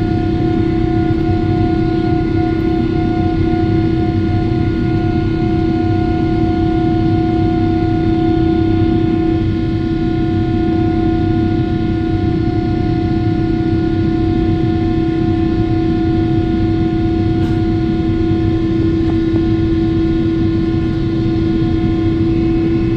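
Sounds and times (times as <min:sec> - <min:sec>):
jet engine fan tone: 0:00.0 - 0:22.9.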